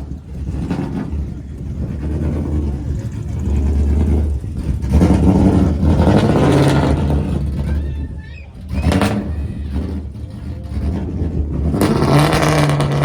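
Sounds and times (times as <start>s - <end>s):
loud car exhaust rumbling: 0.0s - 13.0s.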